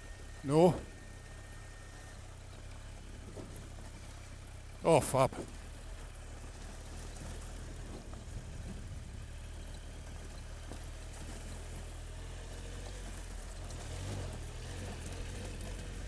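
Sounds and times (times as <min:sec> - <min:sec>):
motorcycle engine running at low revs: 0:00.0 - 0:16.0.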